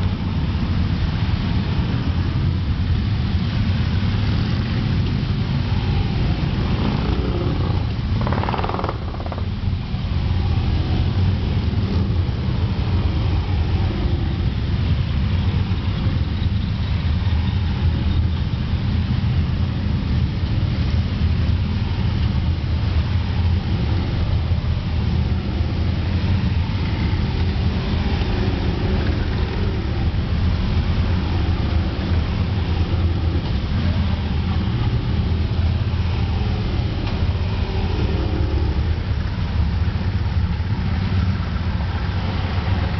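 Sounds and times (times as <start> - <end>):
police motorcycles and cars passing: 0.0 - 42.9.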